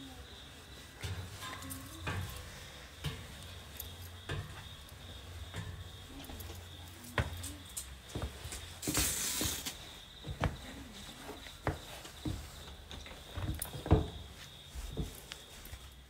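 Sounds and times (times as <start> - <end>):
slow soft footsteps: 0.0 - 16.0.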